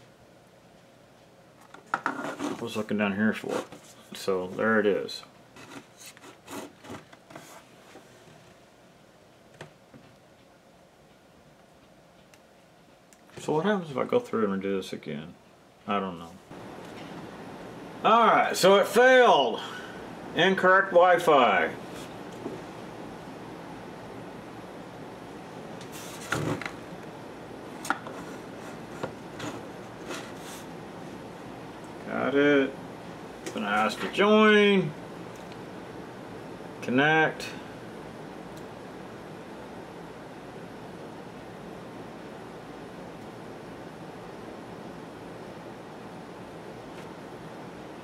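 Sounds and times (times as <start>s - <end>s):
steady low hiss: 0.0s - 48.0s.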